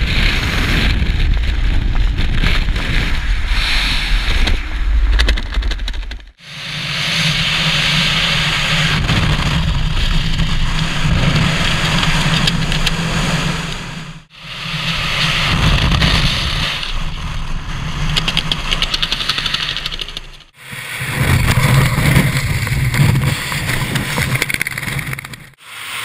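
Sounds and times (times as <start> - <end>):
wind buffeting microphone: 0.0 - 6.1, 6.9 - 20.0, 20.6 - 25.6
parachute fluttering: 0.0 - 26.0.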